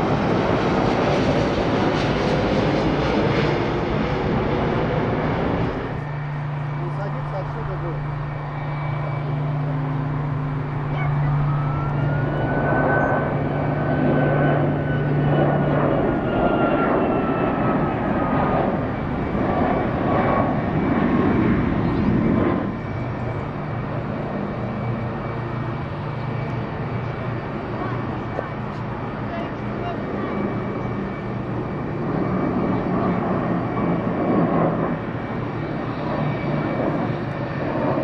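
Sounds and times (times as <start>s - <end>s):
jet airliner passing overhead: 0.0s - 38.0s.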